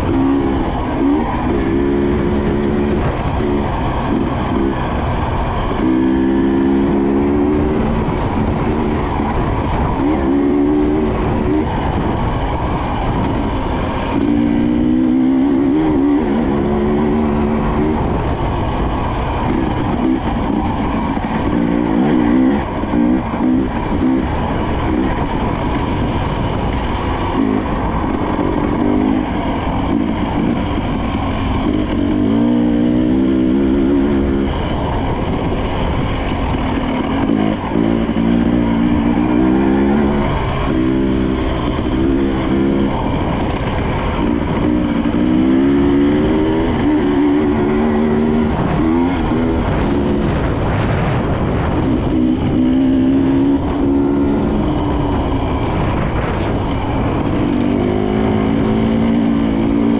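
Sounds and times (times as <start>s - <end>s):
dirt bike engine revving: 0.0s - 59.9s
steady rushing noise: 0.0s - 59.9s.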